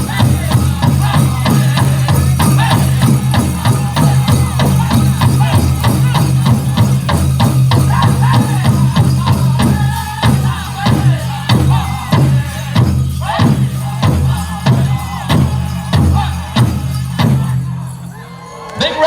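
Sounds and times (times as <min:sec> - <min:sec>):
large hand drum beating: 0:00.0 - 0:17.8
men singing together: 0:00.0 - 0:18.1.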